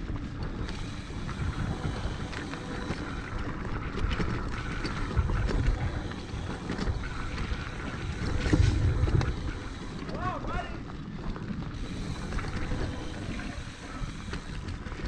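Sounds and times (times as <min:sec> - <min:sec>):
bike rattling and clicking: 0:00.0 - 0:15.0
wind buffeting microphone: 0:00.0 - 0:15.0.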